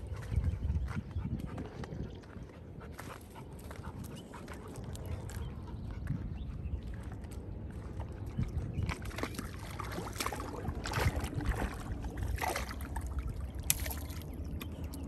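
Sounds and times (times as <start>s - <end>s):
water splashing and sloshing: 1.7s - 15.0s.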